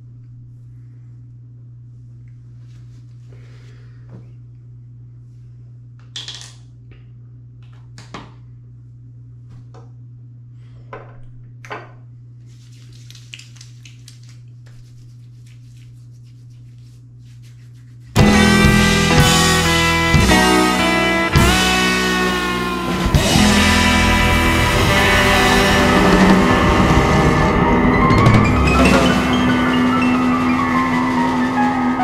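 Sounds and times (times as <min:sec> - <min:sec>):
steady low hum: 0:00.0 - 0:13.0, 0:13.7 - 0:32.0.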